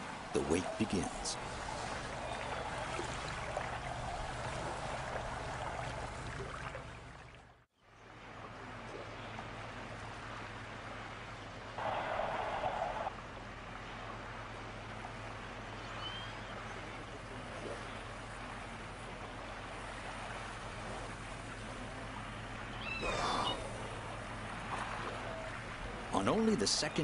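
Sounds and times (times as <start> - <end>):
moving water wash: 0.0 - 27.0.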